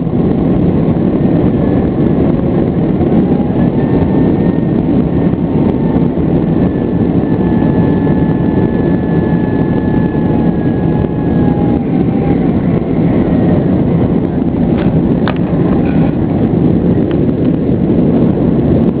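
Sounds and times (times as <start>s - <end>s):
faint steady whine: 0.0s - 19.0s
jet engines at takeoff power: 0.0s - 19.0s.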